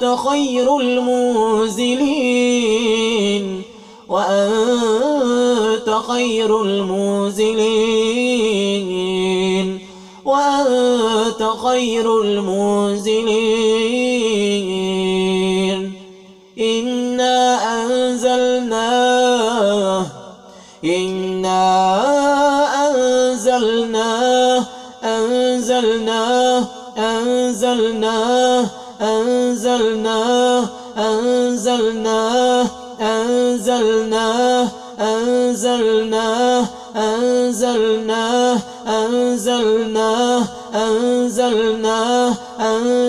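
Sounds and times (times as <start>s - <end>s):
man chanting: 0.0s - 43.0s.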